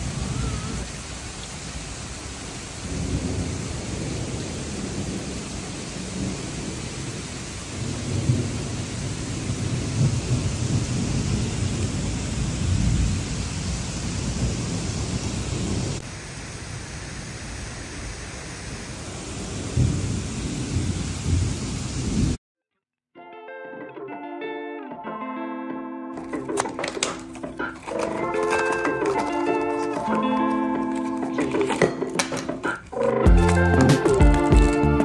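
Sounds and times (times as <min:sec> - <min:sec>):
heavy rain pouring: 0:00.0 - 0:22.4, 0:26.2 - 0:35.0.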